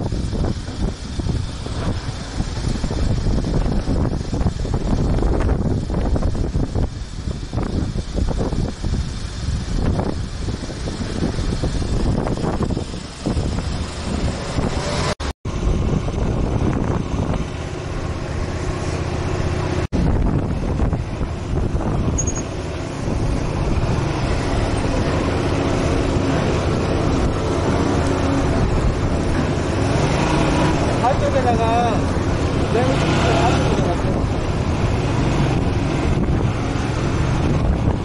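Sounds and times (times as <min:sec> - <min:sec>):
motorcycle engine running: 0:00.0 - 0:38.0
wind noise on microphone: 0:00.0 - 0:38.0.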